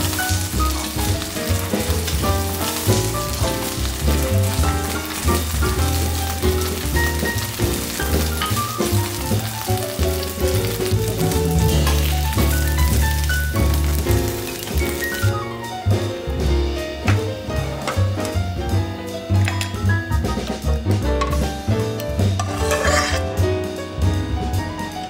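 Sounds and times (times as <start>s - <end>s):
oysters sizzling in a pan: 0.0s - 24.0s
background music with bass: 0.0s - 25.0s.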